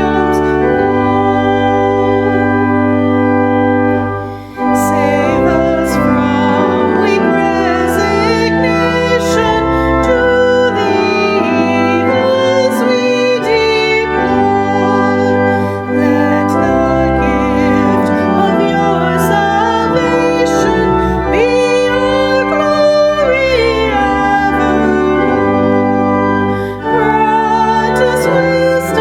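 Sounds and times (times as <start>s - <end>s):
organ playing hymn chords: 0.0s - 29.0s
person singing: 0.0s - 29.0s.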